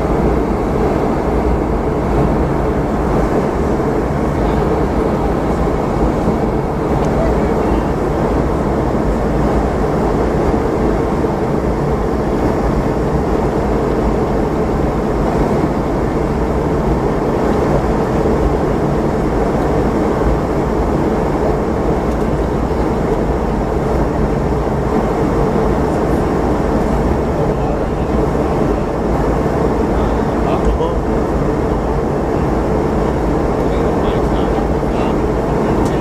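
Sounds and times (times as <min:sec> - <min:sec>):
airflow over aircraft fuselage: 0:00.0 - 0:36.0
jet engines droning: 0:00.0 - 0:36.0.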